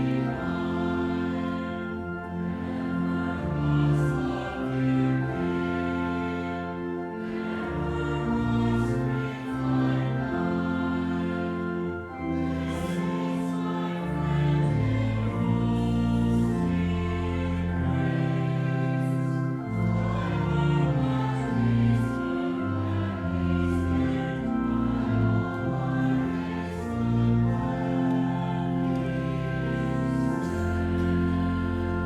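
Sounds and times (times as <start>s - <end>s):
choir singing a hymn: 0.0s - 32.0s.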